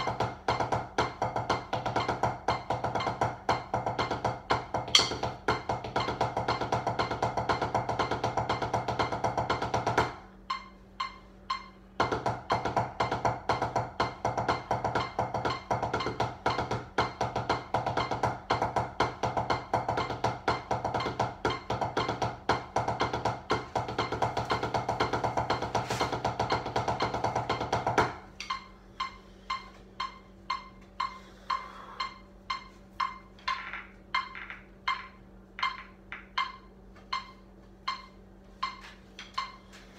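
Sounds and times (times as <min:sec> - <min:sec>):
drumsticks on practice pad: 0:00.0 - 0:39.9.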